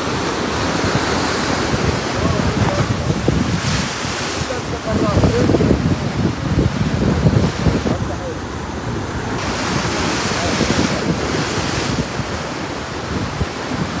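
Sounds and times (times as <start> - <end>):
sea waves breaking: 0.0 - 14.0
wind buffeting microphone: 0.0 - 14.0.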